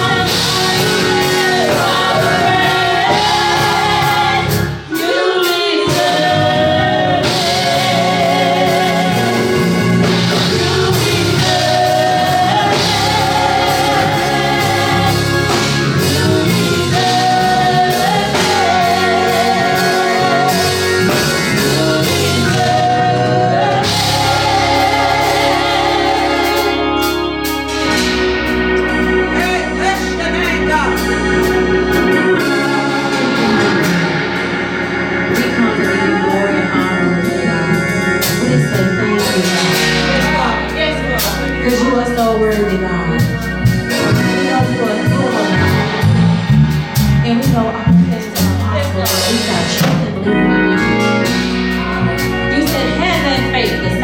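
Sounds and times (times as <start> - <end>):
instrumental accompaniment: 0.0 - 54.0
person singing gospel with vibrato: 0.0 - 54.0.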